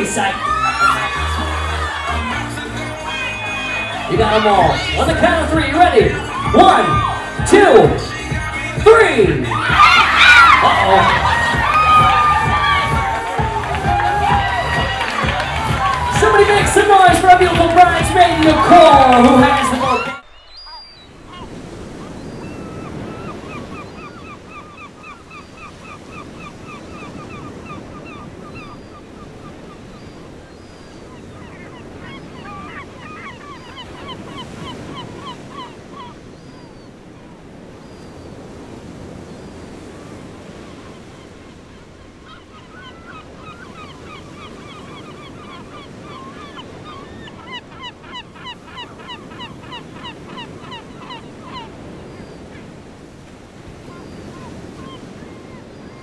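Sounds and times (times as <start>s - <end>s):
waves washing on shoreline: 0.0s - 56.0s
birds chirping rapidly: 1.6s - 56.0s.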